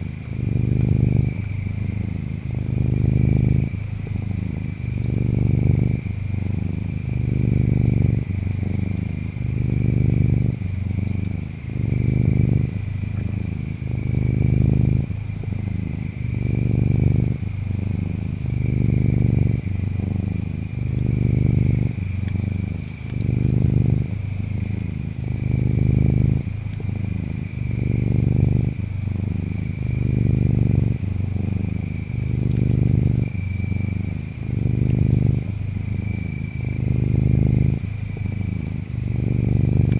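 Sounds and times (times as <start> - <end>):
cat purring: 0.0 - 39.9
insects chirping: 0.0 - 39.9.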